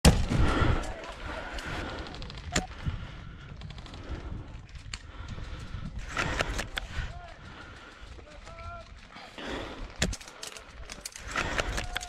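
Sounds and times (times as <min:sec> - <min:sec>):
rumble: 0:00.1 - 0:12.0.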